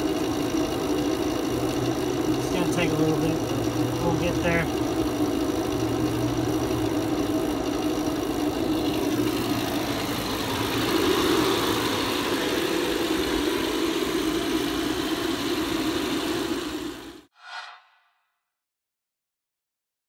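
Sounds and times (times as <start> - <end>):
electric vacuum pump running: 0.0 - 17.3.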